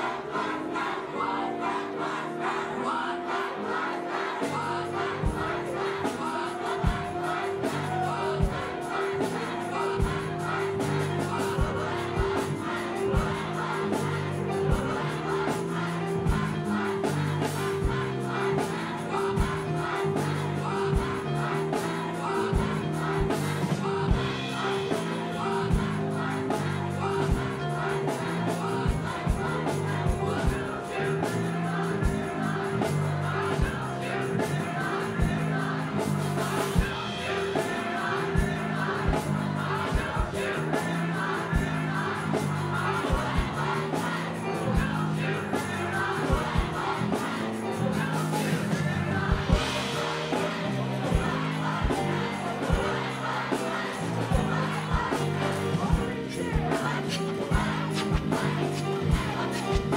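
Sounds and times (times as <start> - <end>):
grand piano: 0.0 - 59.9
drum kit beat: 4.4 - 59.9.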